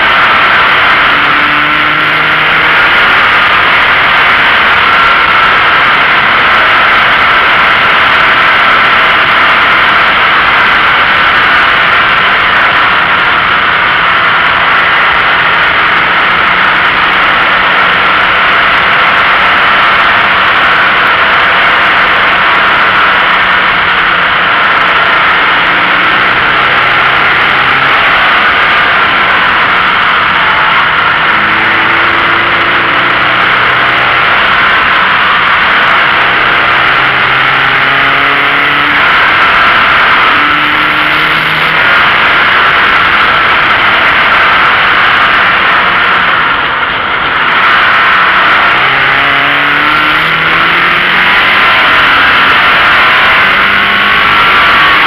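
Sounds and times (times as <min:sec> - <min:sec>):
wind and road noise rushing: 0:00.0 - 0:55.0.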